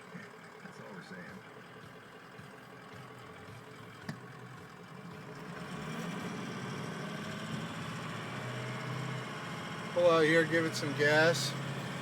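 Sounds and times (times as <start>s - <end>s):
diesel engine hum from inside cab: 0.0s - 12.0s.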